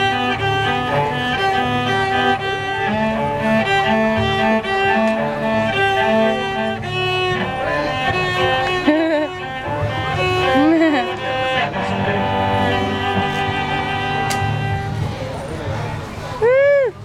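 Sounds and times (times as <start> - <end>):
bowed cello melody: 0.0 - 17.0.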